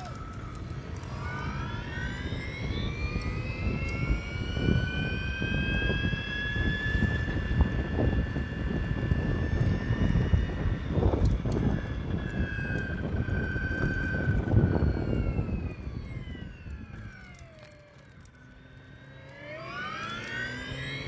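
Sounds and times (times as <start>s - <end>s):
electric scooter motor whining: 0.0s - 21.0s
road and wind rumble: 0.0s - 21.0s.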